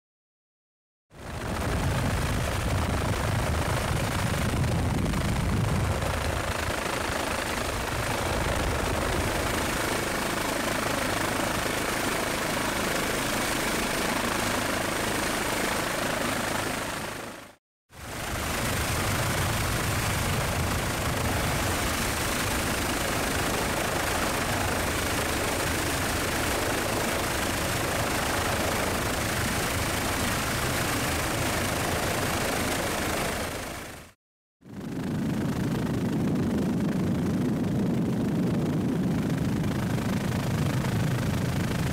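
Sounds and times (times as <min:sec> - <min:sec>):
helicopter rotor and turbine: 0:01.1 - 0:41.9.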